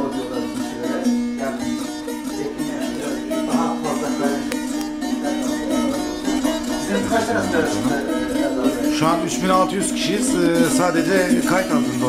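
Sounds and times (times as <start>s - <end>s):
plucked string melody: 0.0s - 12.0s.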